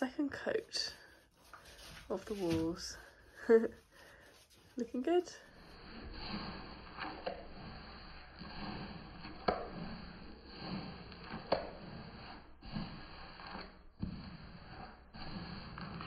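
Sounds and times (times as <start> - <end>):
paintbrush swishing on a wall: 0.0 - 16.0.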